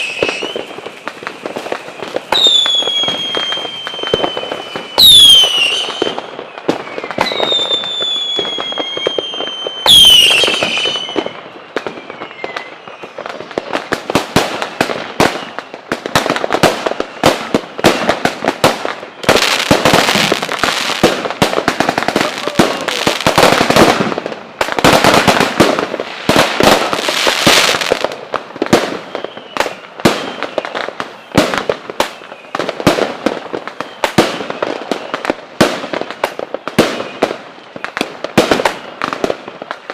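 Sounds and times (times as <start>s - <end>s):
firework whistles falling in pitch: 0.0s - 21.3s, 25.0s - 39.7s
firework bangs and crackling: 0.0s - 39.9s.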